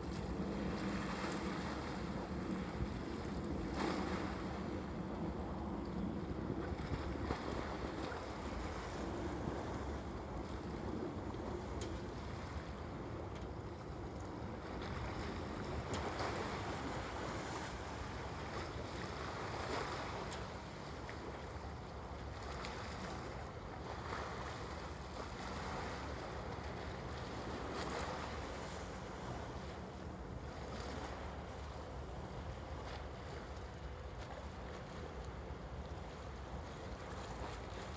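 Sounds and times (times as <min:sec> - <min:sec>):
water lapping against waterfront: 0:00.0 - 0:37.9
wind rumble on microphone: 0:00.0 - 0:37.9.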